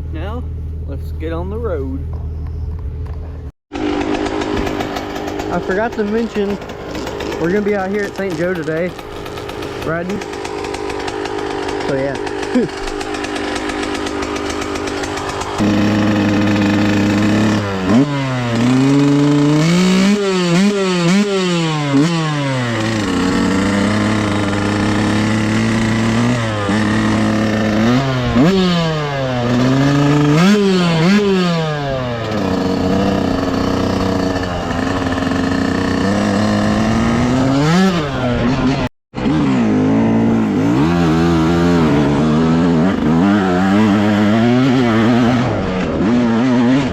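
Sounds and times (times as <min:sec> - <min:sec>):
dirt bike engine revving: 0:03.7 - 0:46.9.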